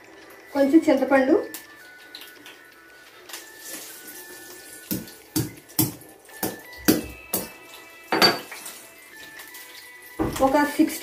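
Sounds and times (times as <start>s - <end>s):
chillies sizzling in oil: 0.0s - 11.0s.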